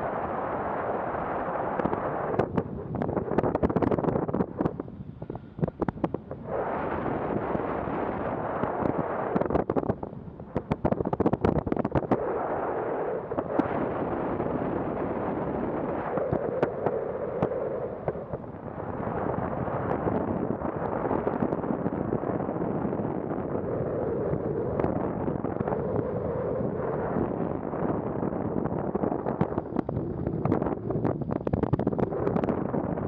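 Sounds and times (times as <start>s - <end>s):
crackles and pops: 0.0s - 33.0s
wind buffeting microphone: 0.0s - 33.0s.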